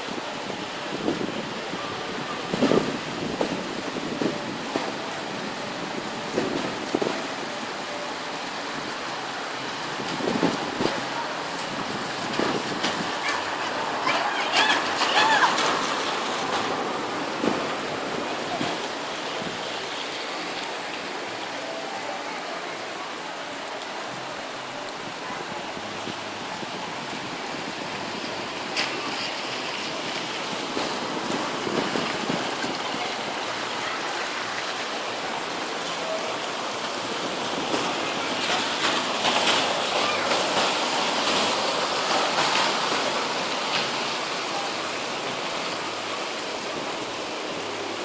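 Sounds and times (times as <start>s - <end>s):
rain falling: 0.0s - 48.0s.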